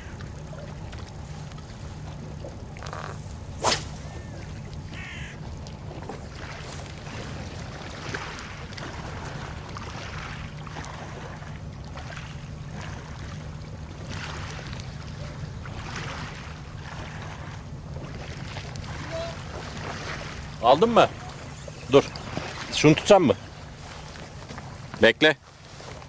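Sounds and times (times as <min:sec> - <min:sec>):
small waves lapping at shore: 0:00.0 - 0:26.0.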